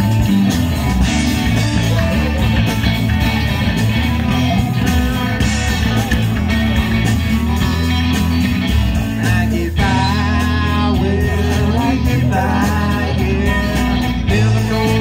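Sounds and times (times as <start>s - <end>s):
bass: 0.0s - 15.0s
lead guitar: 0.0s - 15.0s
steady drum beat: 0.0s - 15.0s.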